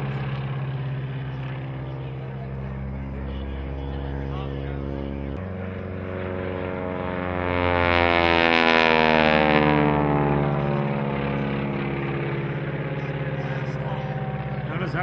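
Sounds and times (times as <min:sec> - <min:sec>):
propeller airplane flying past: 0:00.0 - 0:15.0.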